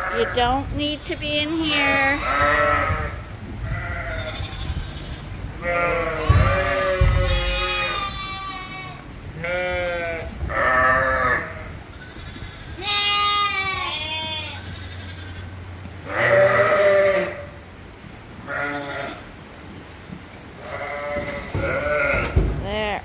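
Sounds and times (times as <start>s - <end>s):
sheep bleating: 1.2s - 17.6s, 18.4s - 19.2s, 20.6s - 22.4s.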